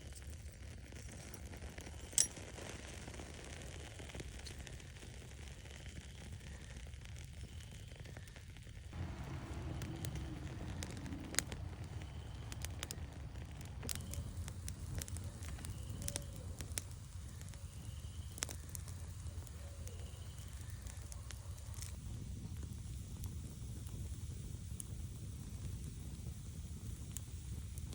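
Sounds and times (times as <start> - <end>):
fire pops and crackles: 0.0 - 27.9
low rush of flame: 0.1 - 27.9.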